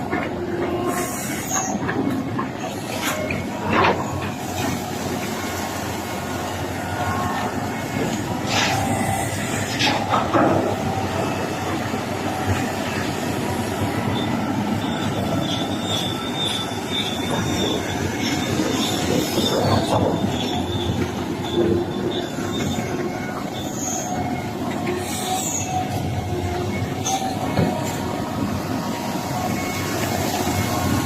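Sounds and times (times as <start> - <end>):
excavator engine and hydraulics: 0.0 - 31.0
metallic squeals: 0.6 - 31.0.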